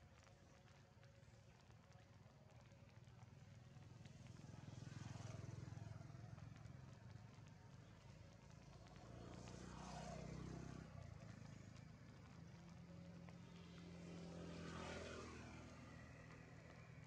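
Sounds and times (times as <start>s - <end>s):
passing motor vehicle engine hum: 0.0s - 17.0s.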